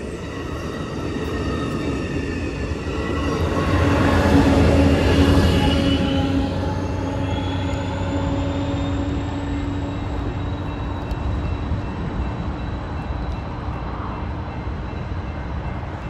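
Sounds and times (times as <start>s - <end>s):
diesel locomotive engine hum: 0.0s - 16.0s
passenger train passing: 0.0s - 16.0s.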